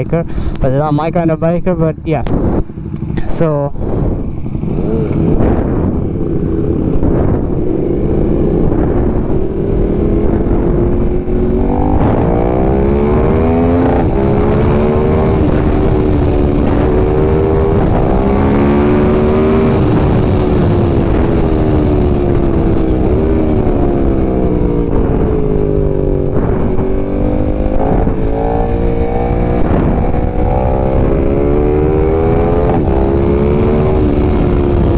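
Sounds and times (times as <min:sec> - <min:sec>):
wind rumble on microphone: 0:00.0 - 0:34.9
motorcycle engine shifting gears: 0:02.2 - 0:34.9.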